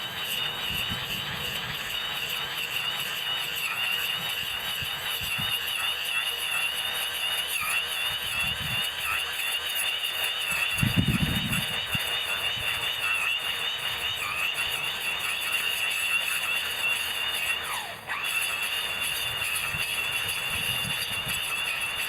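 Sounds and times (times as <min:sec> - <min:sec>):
electric brush cutter whining: 0:00.0 - 0:22.0.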